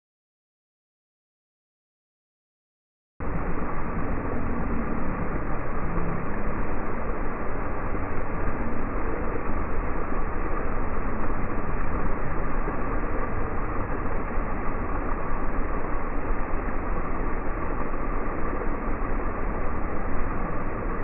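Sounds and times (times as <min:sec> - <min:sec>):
water spraying from fountains: 0:03.2 - 0:21.0.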